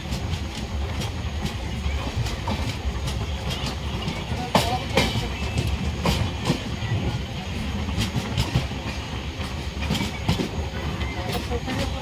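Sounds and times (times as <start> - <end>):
train rumble from aboard: 0.0 - 12.0
wheels clacking over rail joints: 0.0 - 12.0.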